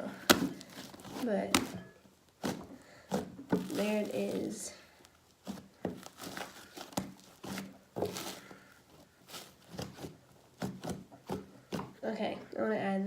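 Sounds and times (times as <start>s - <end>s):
slime squishing and crackling: 0.0s - 12.0s.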